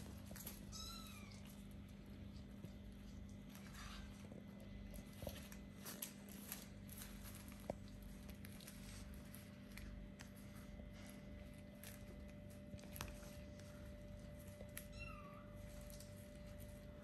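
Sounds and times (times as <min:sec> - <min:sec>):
kittens scrabbling and rustling: 0:00.0 - 0:17.0
steady low hum: 0:00.0 - 0:17.0.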